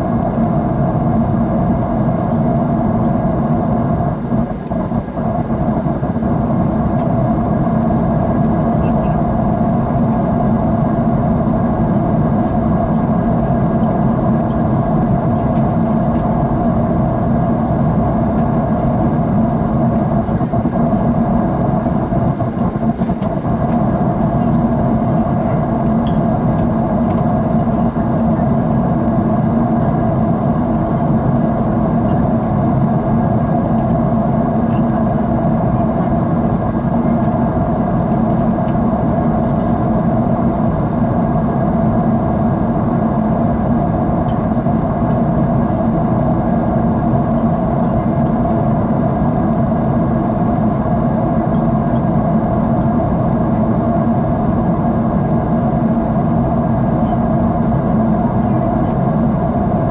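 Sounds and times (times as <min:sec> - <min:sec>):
jet engine drone in cabin: 0:00.0 - 0:59.9.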